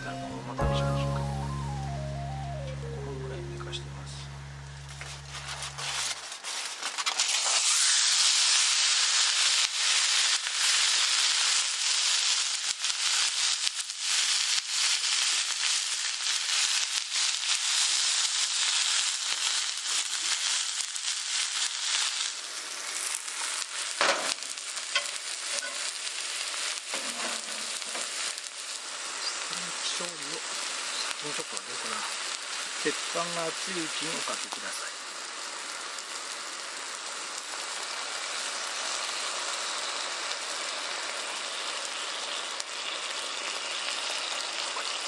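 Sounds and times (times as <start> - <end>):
steak sizzling in a skillet: 4.7 - 45.0.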